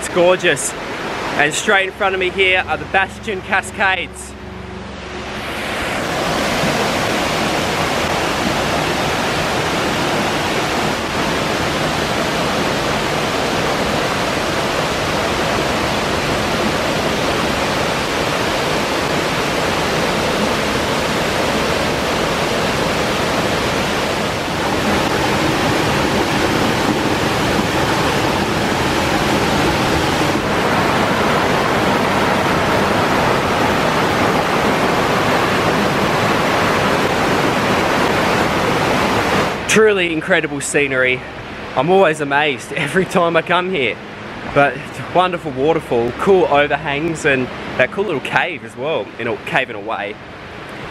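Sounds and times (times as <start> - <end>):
waterfall rushing over rocks: 0.0 - 50.9.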